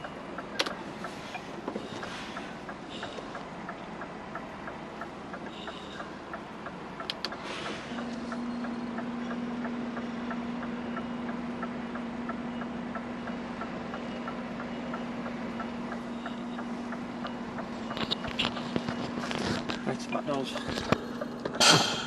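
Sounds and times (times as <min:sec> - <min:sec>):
indicator relay ticking: 0:00.0 - 0:01.2, 0:02.4 - 0:07.4, 0:08.0 - 0:19.2, 0:19.9 - 0:20.5
truck engine running: 0:00.0 - 0:22.0.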